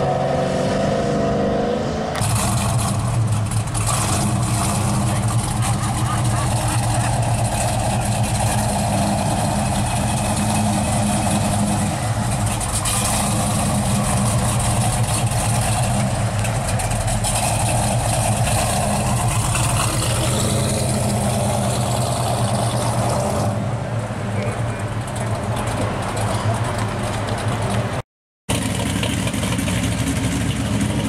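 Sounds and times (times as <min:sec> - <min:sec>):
car engine idling: 0:02.1 - 0:31.0.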